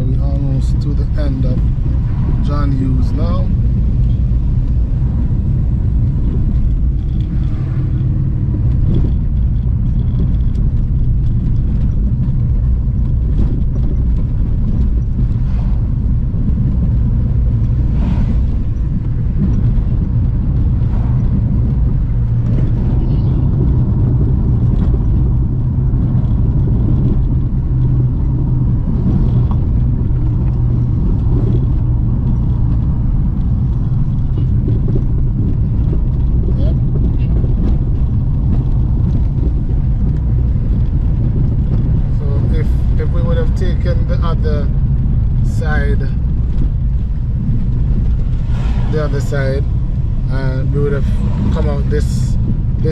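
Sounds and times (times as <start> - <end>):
car engine and tyre rumble: 0.0 - 52.9.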